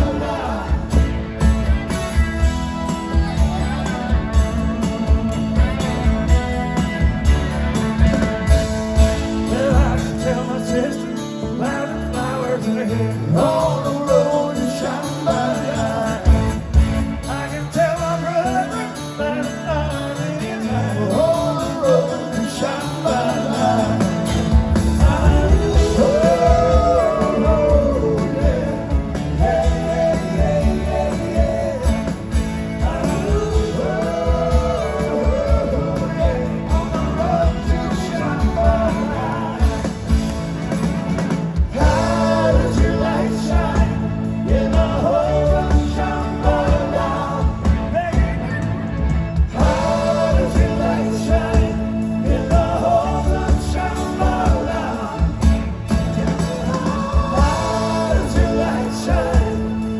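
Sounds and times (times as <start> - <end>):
person singing: 0.0 - 1.8, 8.0 - 40.4, 41.7 - 48.3, 49.6 - 59.9
live rock band: 0.0 - 59.9.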